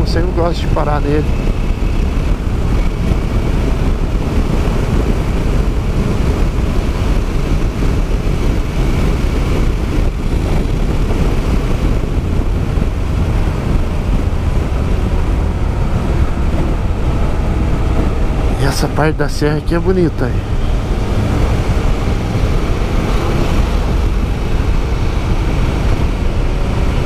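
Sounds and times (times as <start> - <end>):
motorcycle road noise: 0.0 - 27.0
wind hitting microphone: 0.0 - 27.0.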